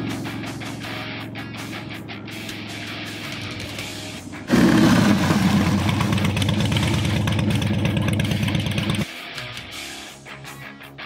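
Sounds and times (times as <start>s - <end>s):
background music with electric guitar: 0.0s - 11.0s.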